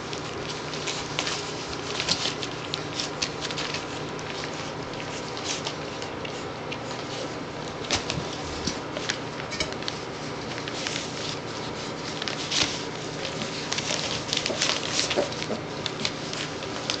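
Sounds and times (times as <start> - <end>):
puppies eating smacking: 0.0 - 17.0.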